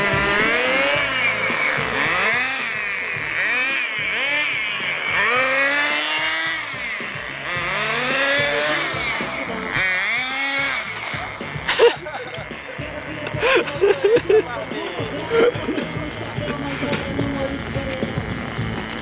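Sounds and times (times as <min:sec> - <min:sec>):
rc car motor revving: 0:00.0 - 0:19.0.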